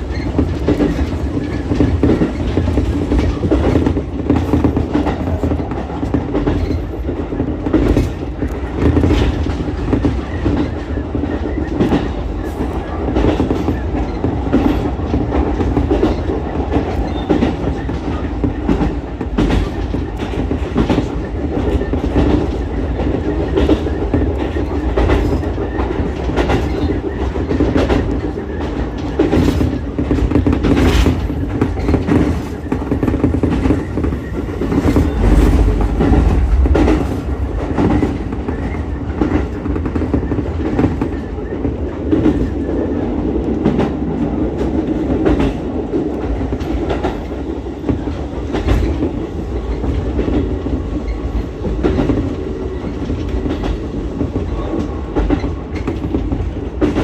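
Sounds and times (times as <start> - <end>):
clacks over rail joints: 0.0 - 57.0
train wheels rumbling on rails: 0.0 - 57.0.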